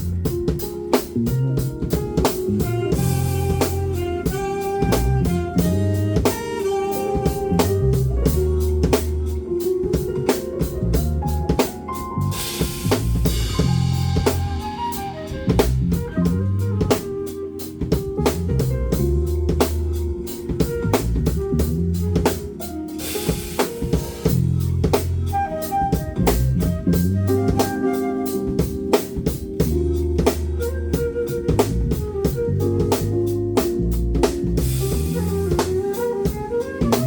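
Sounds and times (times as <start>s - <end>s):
band music: 0.0s - 37.0s.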